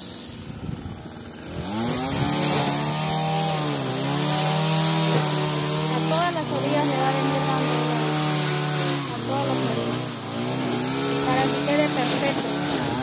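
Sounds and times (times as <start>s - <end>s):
string trimmer engine revving: 0.0s - 13.0s.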